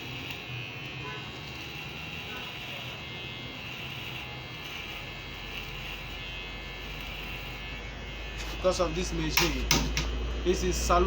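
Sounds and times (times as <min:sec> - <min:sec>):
electric hair clipper buzzing: 0:00.0 - 0:11.0.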